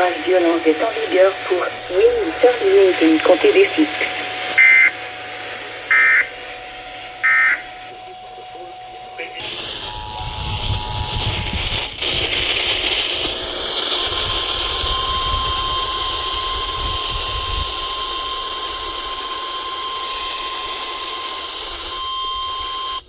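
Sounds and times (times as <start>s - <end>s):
radio static hiss: 0.0s - 23.0s
steady alarm tone: 0.0s - 23.0s.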